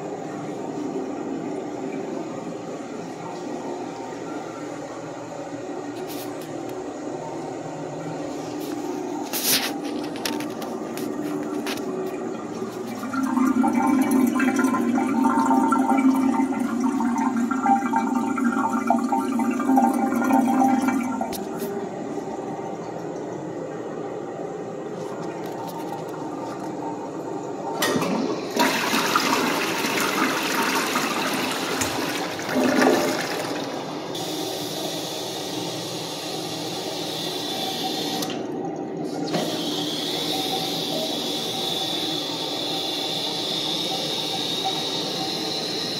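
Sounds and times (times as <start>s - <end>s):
fill valve hissing whine: 0.0s - 45.9s
toilet flushing: 6.9s - 45.9s
tank refilling with water: 8.0s - 45.9s.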